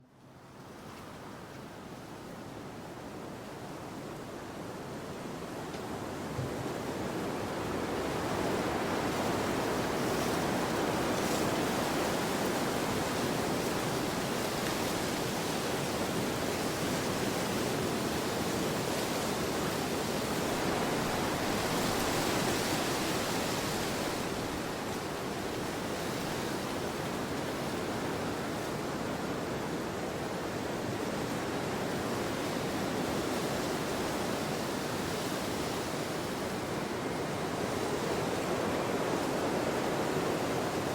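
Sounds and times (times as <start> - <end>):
wind blowing in snowstorm: 5.0 - 40.9.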